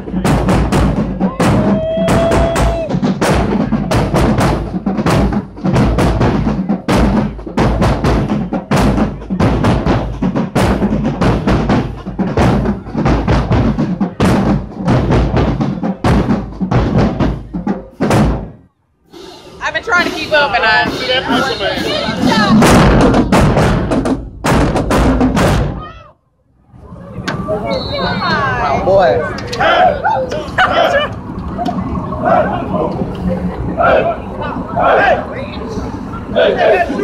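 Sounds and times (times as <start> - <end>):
marching drumline cadence: 0.0 - 26.1, 27.3 - 37.0.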